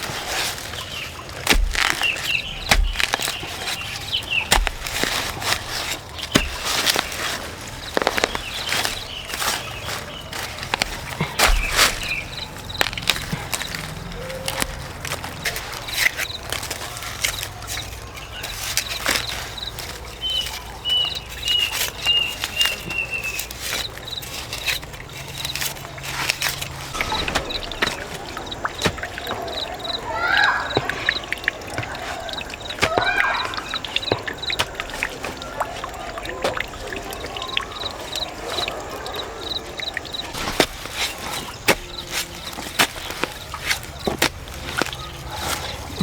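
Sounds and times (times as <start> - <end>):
water sloshing: 0.0 - 46.0.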